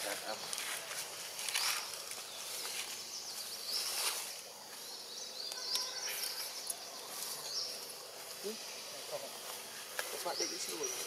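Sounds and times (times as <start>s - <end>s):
steady hiss: 0.0s - 11.0s
high chirping calls: 1.5s - 11.0s.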